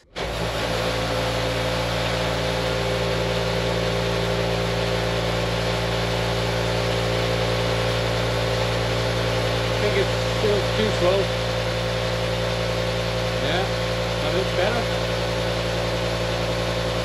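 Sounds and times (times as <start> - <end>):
vibrating motor humming: 0.0 - 17.0.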